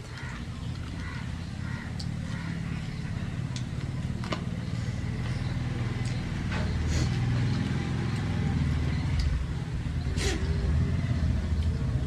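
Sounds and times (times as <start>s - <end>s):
people eating off metal plates: 0.0s - 12.0s.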